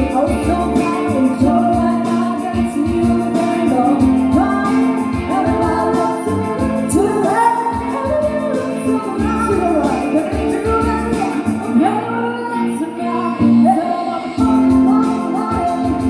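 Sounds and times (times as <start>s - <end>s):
pop song with singing: 0.0s - 16.0s.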